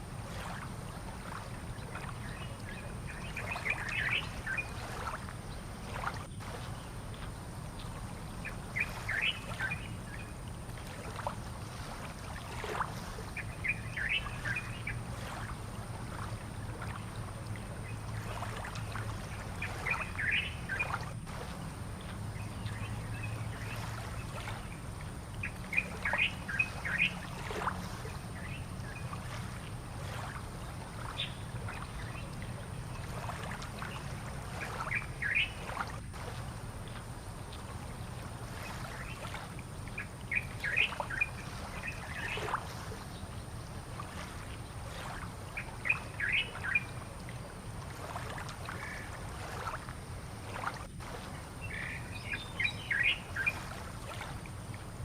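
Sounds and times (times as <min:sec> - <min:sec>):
low rumble and hiss: 0:00.0 - 0:55.0.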